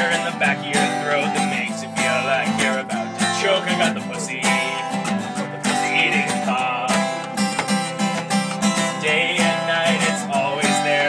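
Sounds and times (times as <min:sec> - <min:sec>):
person singing: 0:00.0 - 0:07.7, 0:08.8 - 0:11.0
acoustic guitar strumming: 0:00.0 - 0:11.0.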